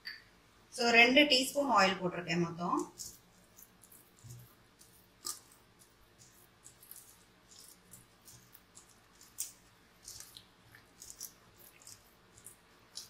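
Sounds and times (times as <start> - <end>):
dough squelching while kneaded: 1.8 - 13.0.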